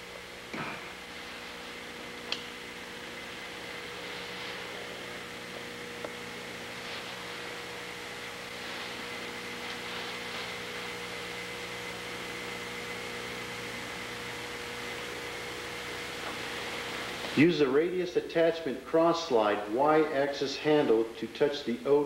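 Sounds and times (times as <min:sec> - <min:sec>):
steady hiss and hum: 0:00.0 - 0:22.0.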